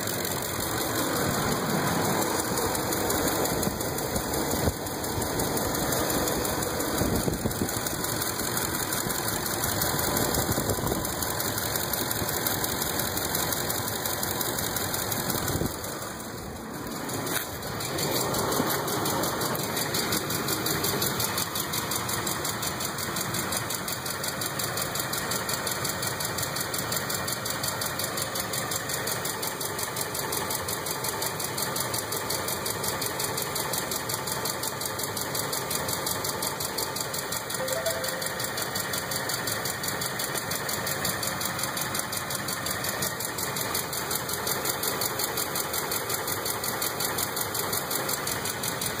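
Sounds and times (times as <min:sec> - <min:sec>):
engine running with ticking knock: 0:00.0 - 0:49.0.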